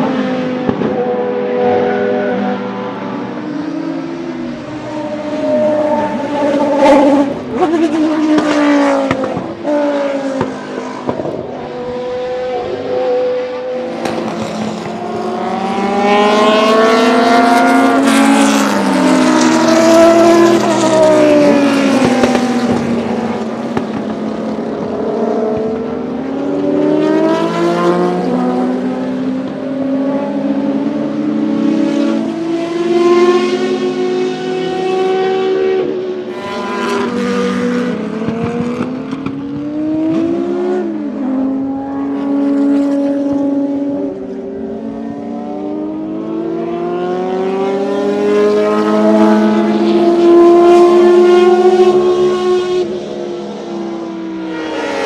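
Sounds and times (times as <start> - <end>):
race car engine passing: 0.0 - 55.0.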